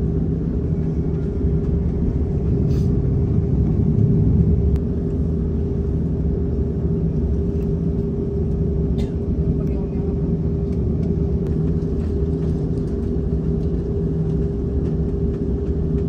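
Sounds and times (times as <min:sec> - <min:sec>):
aircraft cabin rumble: 0:00.0 - 0:16.0
steady hum: 0:00.0 - 0:16.0.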